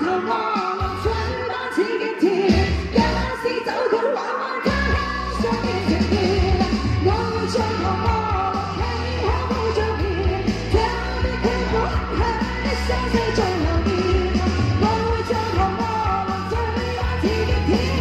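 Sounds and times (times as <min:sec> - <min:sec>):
pop backing track: 0:00.0 - 0:18.0
woman singing into microphone: 0:00.0 - 0:18.0.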